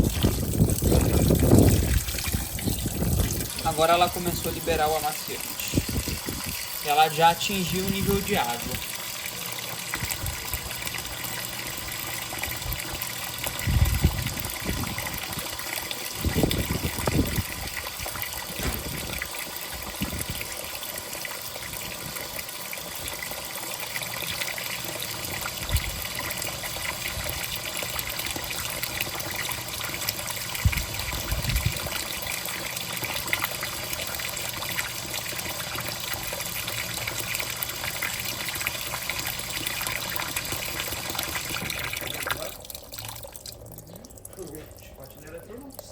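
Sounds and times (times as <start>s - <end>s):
water sloshing in washing machine: 0.0s - 45.9s.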